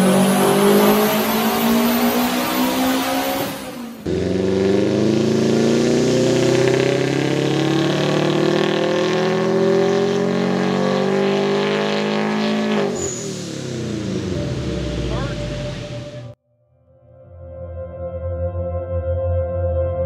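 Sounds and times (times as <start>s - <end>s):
car engine at full throttle: 0.0s - 16.4s.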